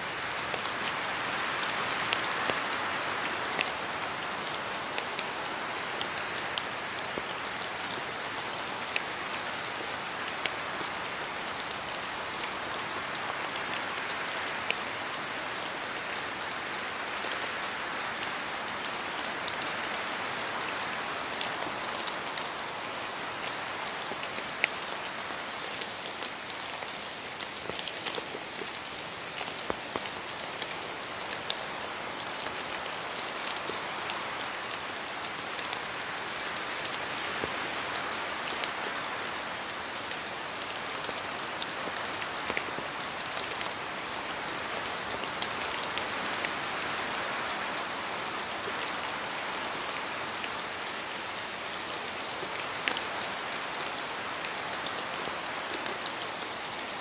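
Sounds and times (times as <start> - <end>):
rain falling: 0.0 - 57.0
raindrops ticking on surfaces: 0.1 - 57.0.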